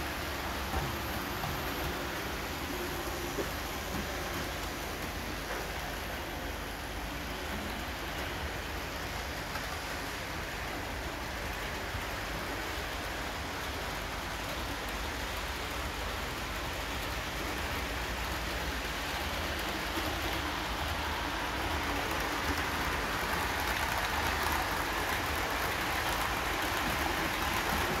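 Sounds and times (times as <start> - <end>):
model train whirring on track: 0.0 - 28.0.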